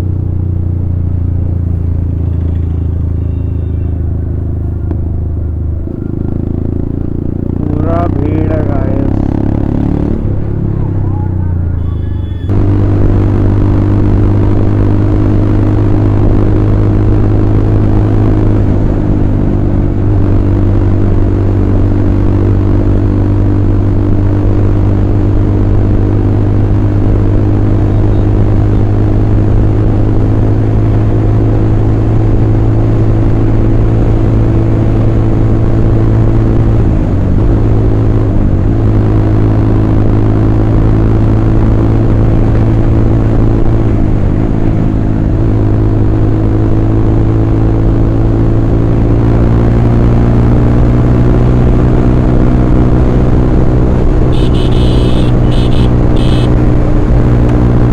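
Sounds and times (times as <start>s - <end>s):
motorcycle engine cruising: 0.0s - 57.9s.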